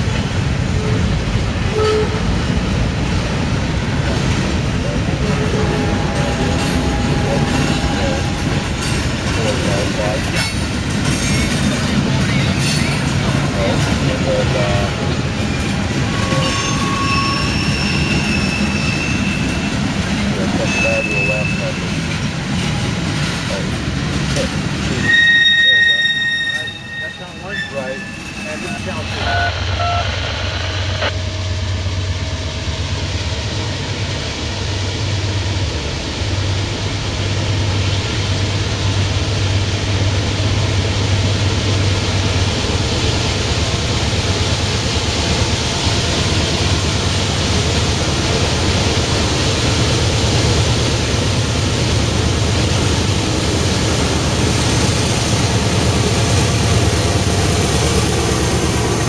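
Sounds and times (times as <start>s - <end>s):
diesel train engine drone: 0.0s - 59.0s.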